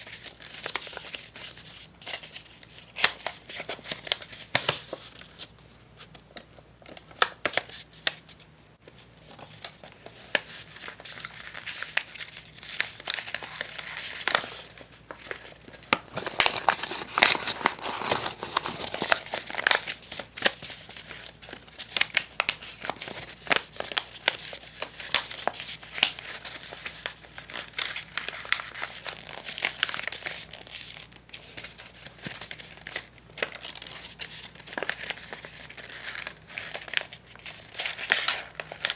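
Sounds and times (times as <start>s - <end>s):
paper being folded and creased: 0.0s - 38.9s.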